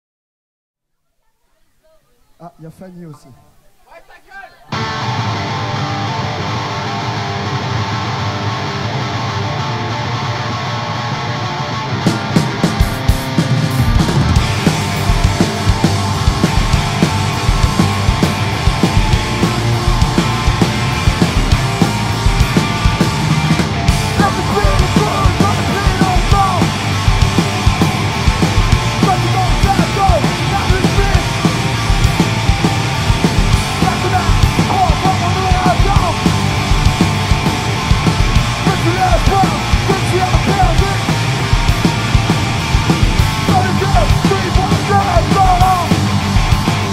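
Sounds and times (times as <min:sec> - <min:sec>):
bass guitar: 0:04.7 - 0:46.9
electric guitars playing: 0:04.7 - 0:46.9.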